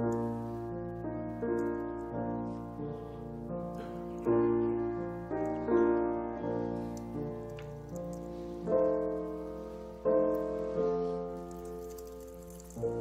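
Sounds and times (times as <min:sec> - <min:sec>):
slow soft piano chords: 0:00.0 - 0:13.0.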